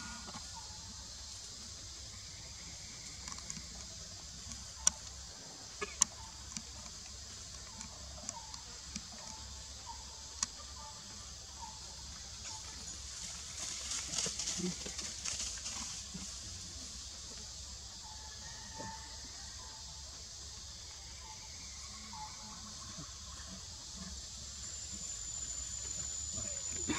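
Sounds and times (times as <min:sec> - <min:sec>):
faint chirp-like calls: 0:00.0 - 0:26.9.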